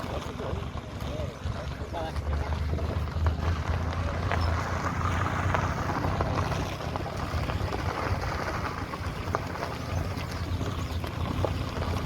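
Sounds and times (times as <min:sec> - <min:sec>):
vehicle rumbling along road: 0:00.0 - 0:12.0.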